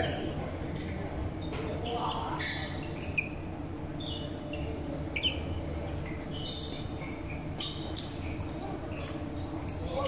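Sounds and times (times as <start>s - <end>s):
shoes squeaking on court floor: 0.0s - 9.8s.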